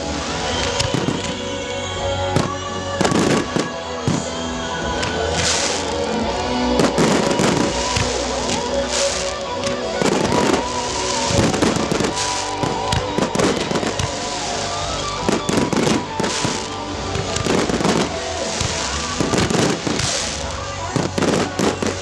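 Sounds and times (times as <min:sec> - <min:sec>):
fireworks crackling: 0:00.0 - 0:22.0
music playing: 0:00.0 - 0:22.0.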